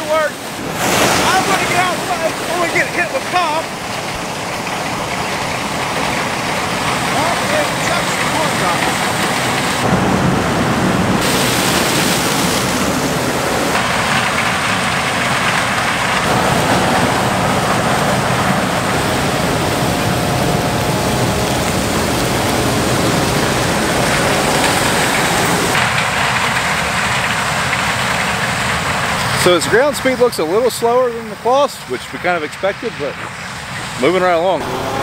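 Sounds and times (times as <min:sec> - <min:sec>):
harvesting machinery engines: 0:00.0 - 0:35.0.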